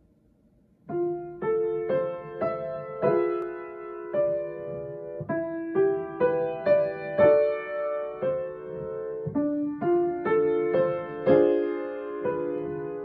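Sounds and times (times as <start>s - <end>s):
slow gentle piano piece: 0.0s - 13.0s.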